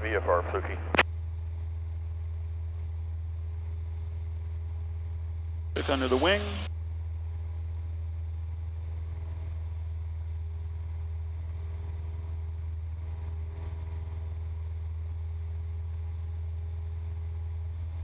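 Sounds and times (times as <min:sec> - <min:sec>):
propeller plane engine droning: 0:00.0 - 0:18.0.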